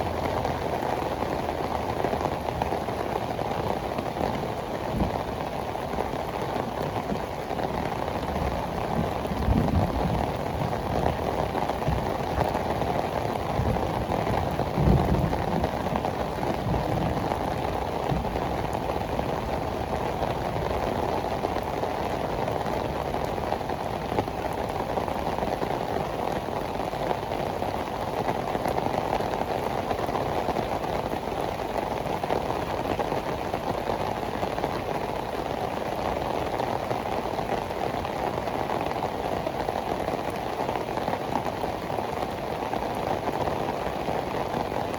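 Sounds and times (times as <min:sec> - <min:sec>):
heavy rain on pavement: 0:00.0 - 0:44.9.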